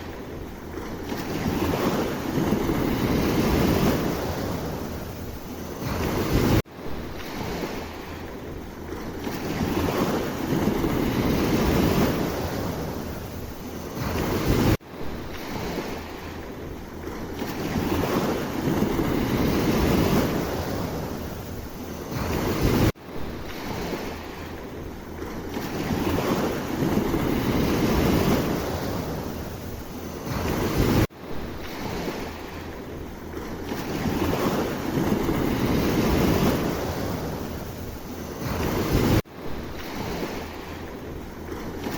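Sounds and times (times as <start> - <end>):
sea waves washing in: 0.0 - 41.9
wind noise on microphone: 0.0 - 41.9.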